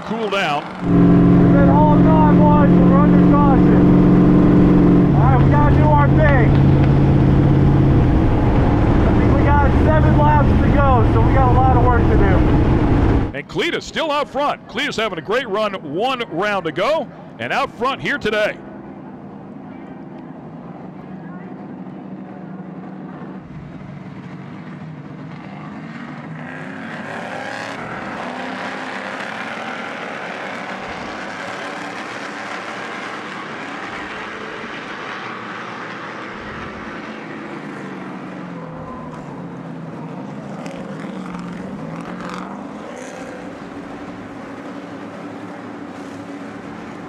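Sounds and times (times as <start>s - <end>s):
truck engines revving: 0.4s - 18.6s, 21.6s - 47.0s.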